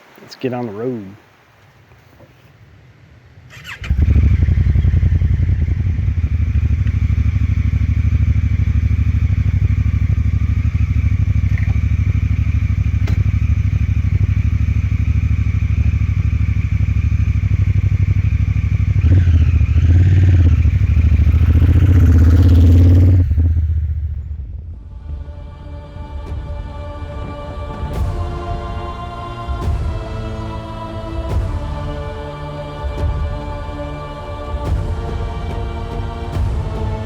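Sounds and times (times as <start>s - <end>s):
motorcycle engine idling and revving: 3.4s - 25.4s, 26.2s - 37.0s.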